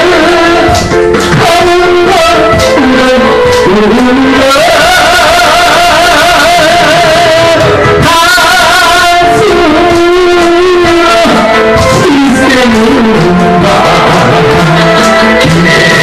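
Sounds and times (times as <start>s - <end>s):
backing track: 0.0s - 16.0s
person singing through pa: 0.0s - 16.0s.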